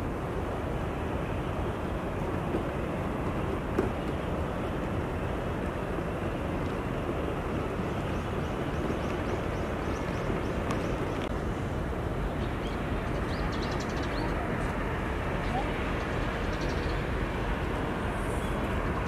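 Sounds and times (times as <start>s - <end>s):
city road traffic hum: 0.0s - 19.0s.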